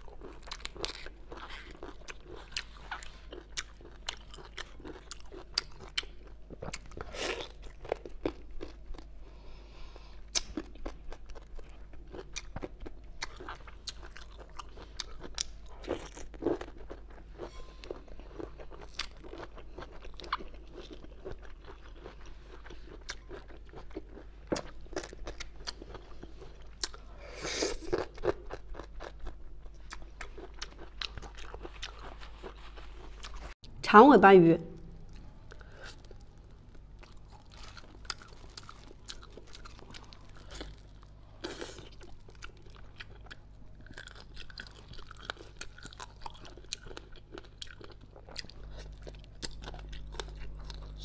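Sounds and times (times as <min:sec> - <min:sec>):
crunching and chewing bamboo: 0:00.0 - 0:09.1, 0:10.3 - 0:27.1, 0:27.9 - 0:33.6, 0:35.1 - 0:51.0.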